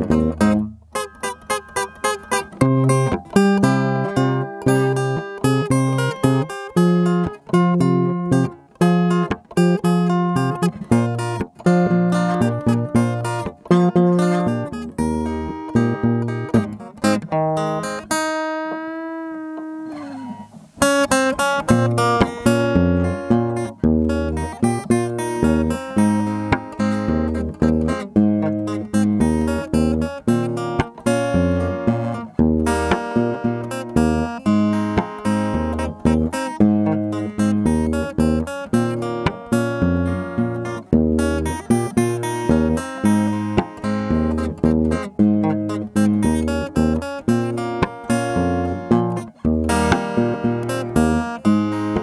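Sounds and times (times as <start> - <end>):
plucked acoustic guitar: 0.0 - 52.0.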